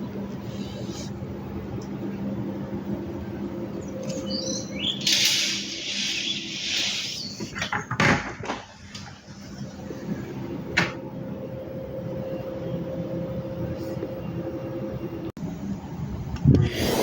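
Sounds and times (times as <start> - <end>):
steady low hum: 0.0 - 7.7, 8.3 - 17.0.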